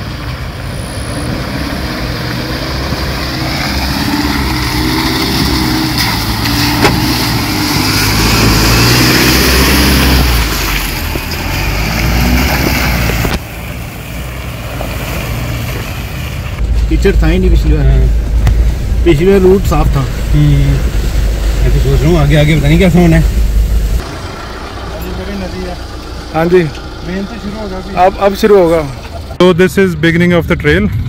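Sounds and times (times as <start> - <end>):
suv engine revving: 0.0 - 30.2.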